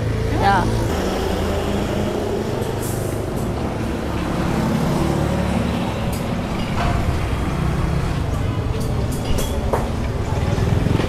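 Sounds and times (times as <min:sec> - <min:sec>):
road vehicles passing: 0:00.0 - 0:11.0.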